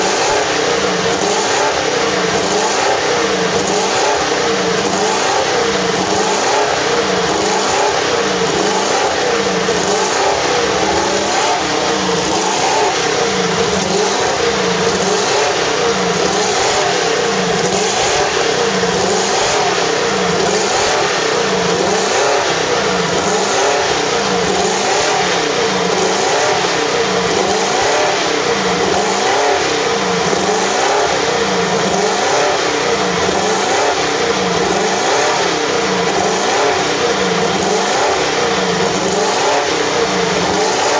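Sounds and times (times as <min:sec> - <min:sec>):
racing engine running hard: 0:00.0 - 0:40.9.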